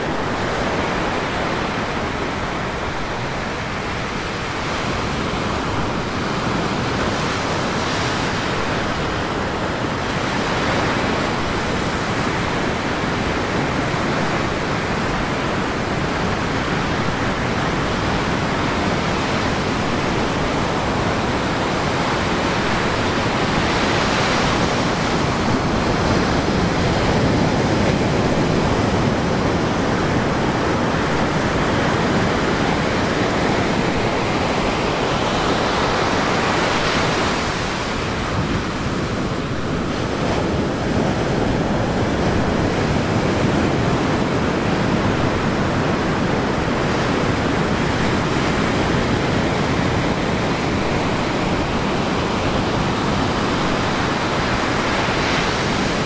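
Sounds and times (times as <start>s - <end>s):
surf breaking on beach: 0.0s - 56.0s.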